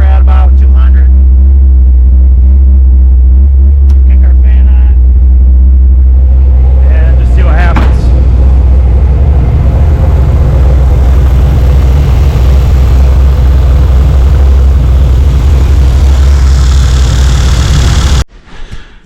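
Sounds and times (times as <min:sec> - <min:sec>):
car engine idling loudly: 0:00.0 - 0:18.3.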